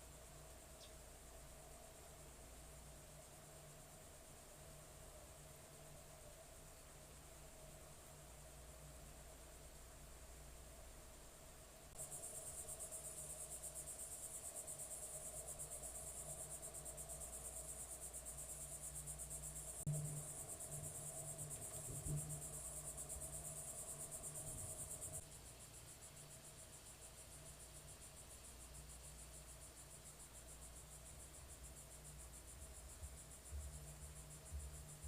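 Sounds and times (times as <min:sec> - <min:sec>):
insects trilling: 0:00.0 - 0:09.8, 0:11.8 - 0:35.0.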